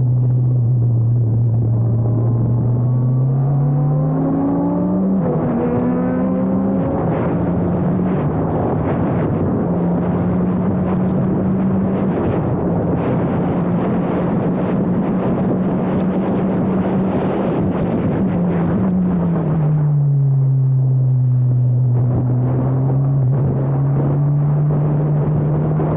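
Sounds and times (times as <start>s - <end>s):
racing car engine running hard: 0.0s - 25.9s
wind and road noise: 0.0s - 25.9s.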